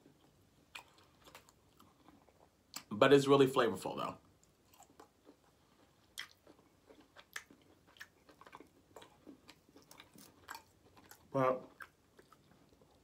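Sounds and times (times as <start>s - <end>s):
faint chewing: 0.0s - 2.9s, 4.4s - 13.0s.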